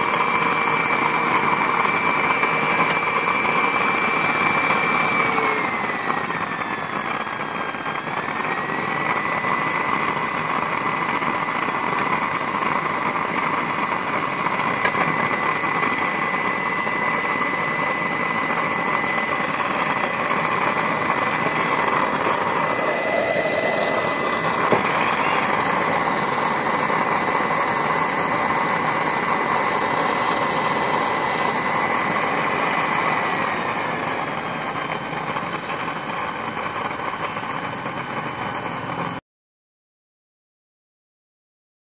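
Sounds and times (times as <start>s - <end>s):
burner air and flame rush: 0.0s - 38.4s
high motor whine: 0.0s - 39.2s.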